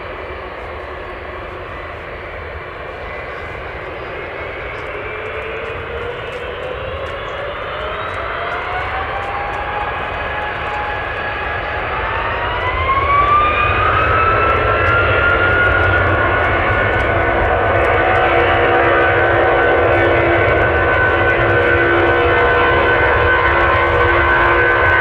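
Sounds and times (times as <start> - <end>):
jet engines spooling up: 0.0 - 25.0.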